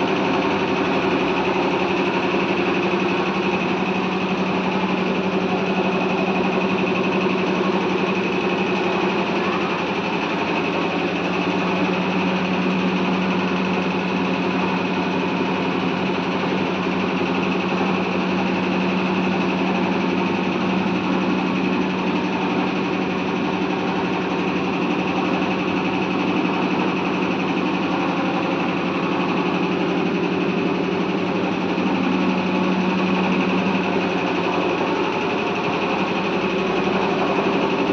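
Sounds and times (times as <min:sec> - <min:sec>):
machine hum: 0:00.0 - 0:37.9.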